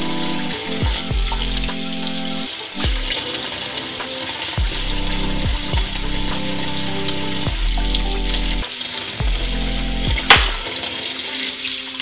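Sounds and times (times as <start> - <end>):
background music with beats: 0.0 - 12.0.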